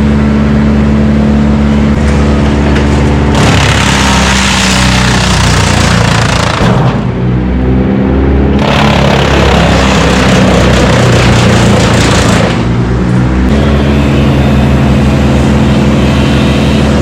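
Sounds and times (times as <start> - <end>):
loud engine running: 0.0 - 17.0
harsh rushing noise: 1.5 - 7.7, 8.5 - 17.0.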